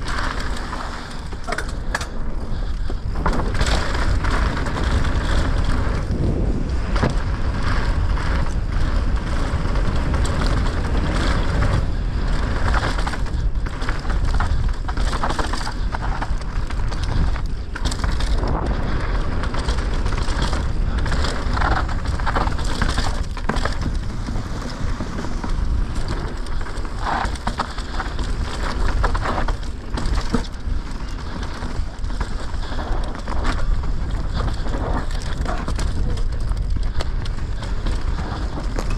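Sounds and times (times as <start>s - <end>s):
bike rattling over bumps: 0.0s - 38.9s
bike tyres on loose dirt: 0.0s - 38.9s
wind rumble on microphone: 0.0s - 38.9s.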